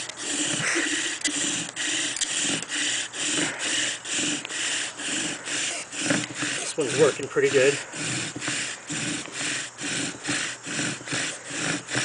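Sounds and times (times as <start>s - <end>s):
bow drill spindle rasping: 0.0s - 12.0s.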